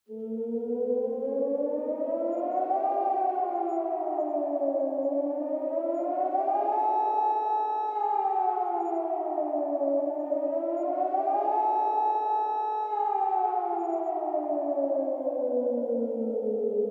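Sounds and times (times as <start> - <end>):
warning siren wailing: 0.1 - 16.9.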